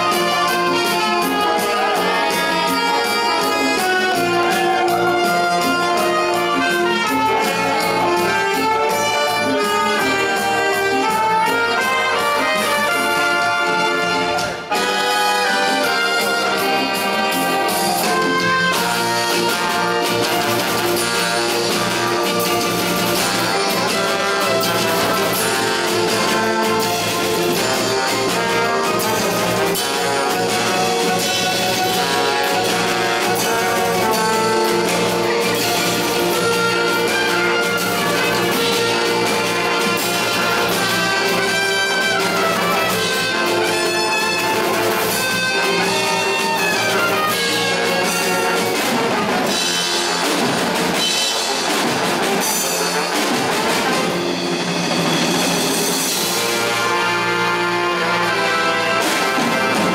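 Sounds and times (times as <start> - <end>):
brass band playing up-tempo tune: 0.0 - 59.9
drum kits: 0.0 - 59.9.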